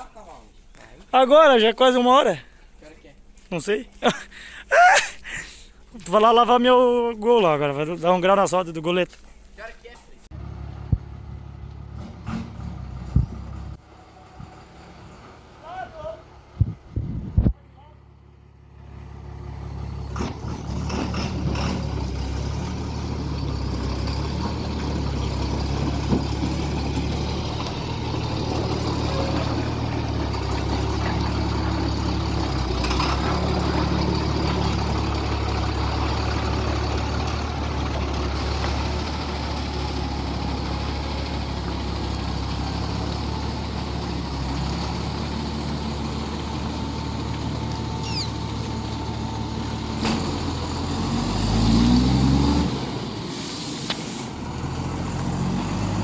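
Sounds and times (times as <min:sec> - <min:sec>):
truck engine running: 0:10.3 - 0:56.0.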